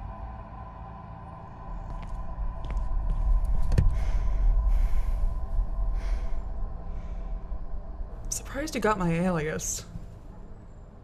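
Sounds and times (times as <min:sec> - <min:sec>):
low drone: 0:00.0 - 0:11.0.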